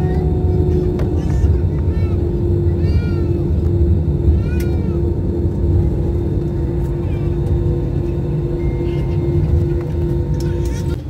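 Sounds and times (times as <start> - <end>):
engine and wheel rumble: 0.0 - 11.0
faint broken hum: 0.0 - 11.0.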